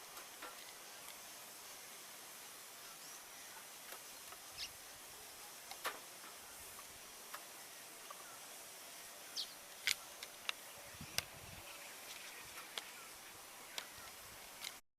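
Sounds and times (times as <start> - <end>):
steady background hiss: 0.0 - 14.8
small birds chirping: 0.4 - 14.8.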